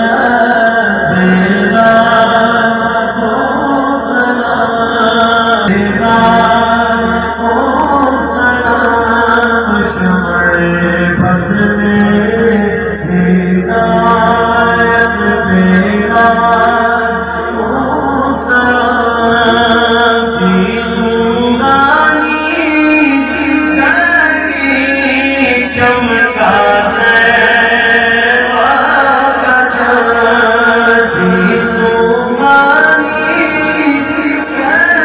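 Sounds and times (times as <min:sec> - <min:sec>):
person chanting a mourning lament: 0:00.0 - 0:35.0.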